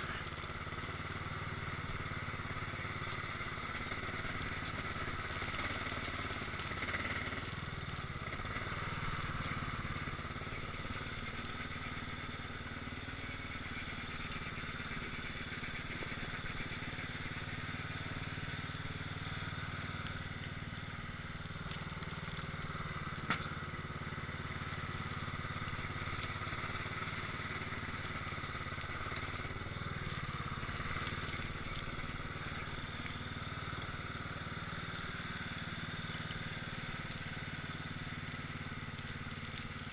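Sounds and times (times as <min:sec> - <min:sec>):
lawn tractor engine running: 0:00.0 - 0:39.9
plow blade pushing snow: 0:00.0 - 0:39.9.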